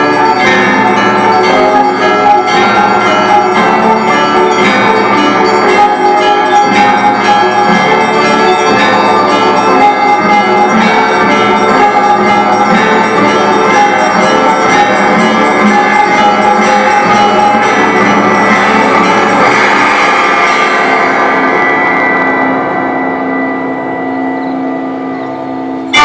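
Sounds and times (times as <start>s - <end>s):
bells ringing in a peal: 0.0s - 26.0s.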